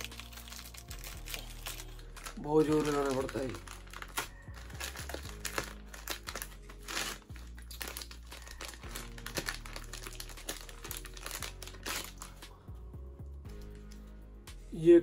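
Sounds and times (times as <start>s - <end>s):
plastic satchel crinkling: 0.0s - 12.5s
background music: 0.0s - 15.0s.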